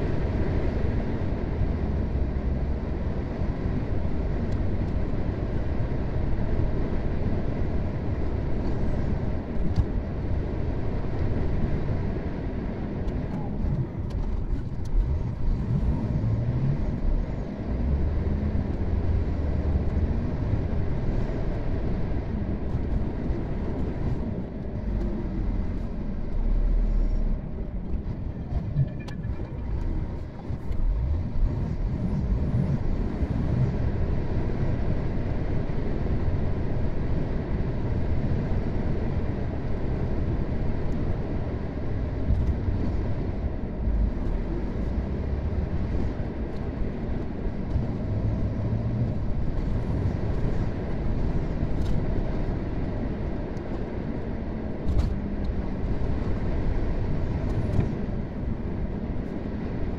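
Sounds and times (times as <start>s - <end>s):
car road noise rumble: 0.0s - 59.9s.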